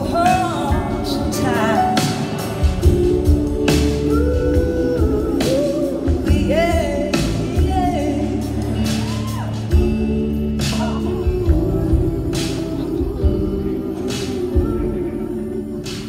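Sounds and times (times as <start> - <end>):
backing singers: 0.0 - 16.0
bass guitar: 0.0 - 16.0
drum kit: 0.0 - 16.0
woman singing lead: 0.0 - 16.0.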